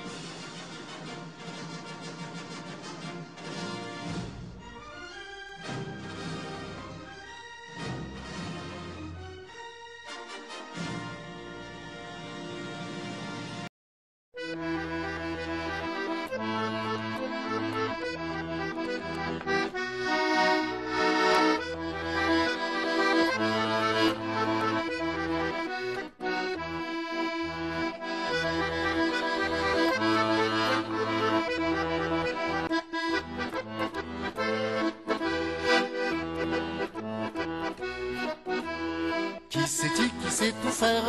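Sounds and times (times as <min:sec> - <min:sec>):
accordion music: 0:00.0 - 0:13.7, 0:14.4 - 0:41.0.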